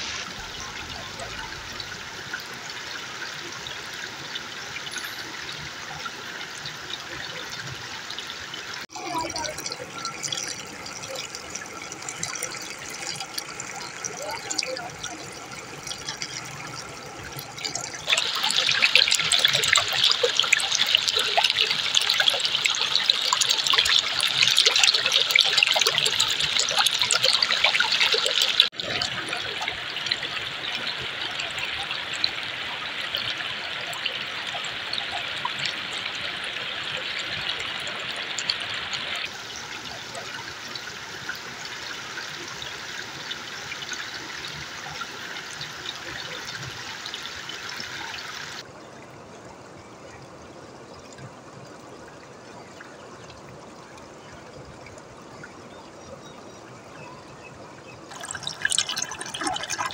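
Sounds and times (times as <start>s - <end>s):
river water trickling over rocks: 0.0s - 59.9s
small water splashes: 0.0s - 59.9s.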